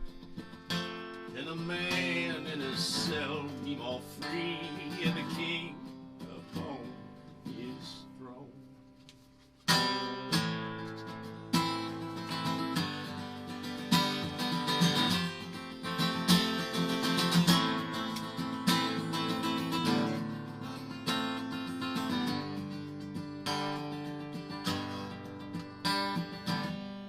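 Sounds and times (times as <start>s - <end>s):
acoustic guitar strumming chords: 0.0s - 9.0s, 9.7s - 27.0s.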